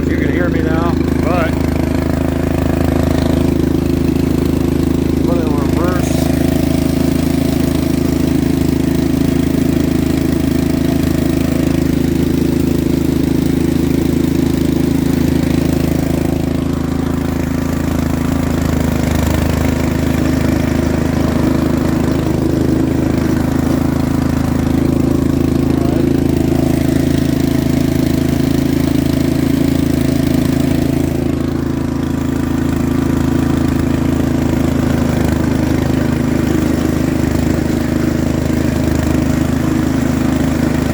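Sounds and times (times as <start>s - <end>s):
riding lawn mower engine running: 0.0s - 40.9s.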